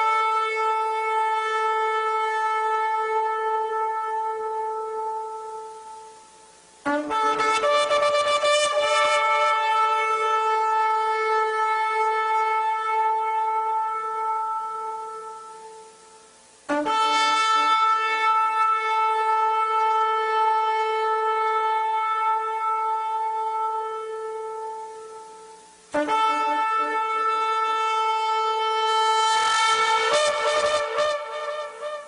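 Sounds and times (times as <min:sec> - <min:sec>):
ram's horn blasts: 0:00.0 - 0:32.0.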